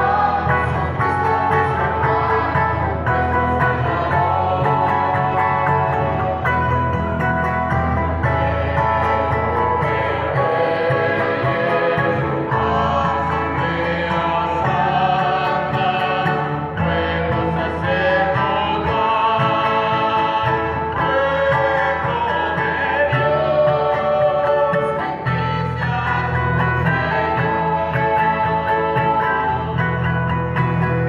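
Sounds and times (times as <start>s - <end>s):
choir singing a hymn: 0.0s - 31.0s
instrumental accompaniment: 0.0s - 31.0s
steady bass notes: 0.0s - 31.0s.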